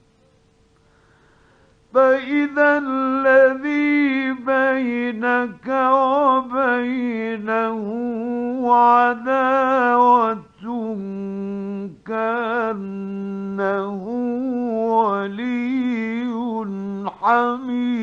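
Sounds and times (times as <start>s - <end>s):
man chanting melodically: 2.0s - 18.0s.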